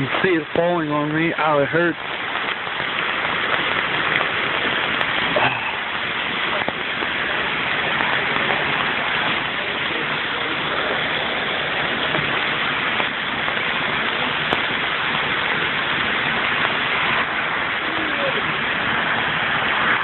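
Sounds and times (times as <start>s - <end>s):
heavy rain and hail: 0.0s - 20.0s.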